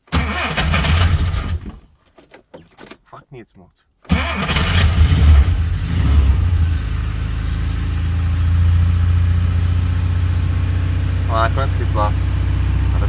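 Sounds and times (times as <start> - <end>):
car engine cold starting: 0.0 - 1.9, 4.1 - 13.0.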